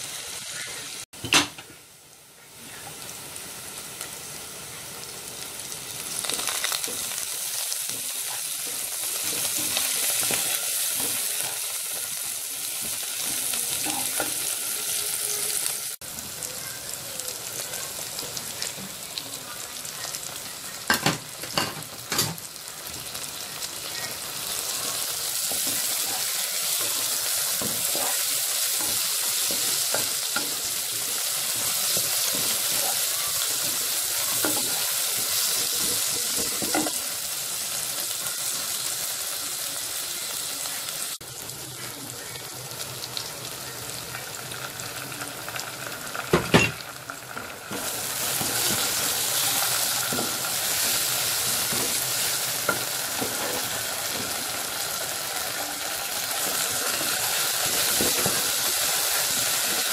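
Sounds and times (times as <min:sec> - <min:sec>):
onions and tomatoes sizzling in a pan: 0:00.0 - 0:59.9.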